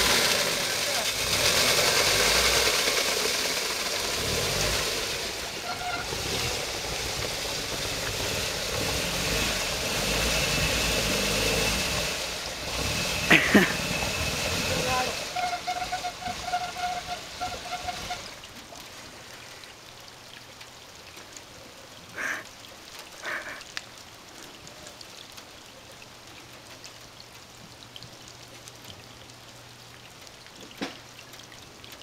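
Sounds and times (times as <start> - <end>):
water patter and trickle: 0.0 - 32.0.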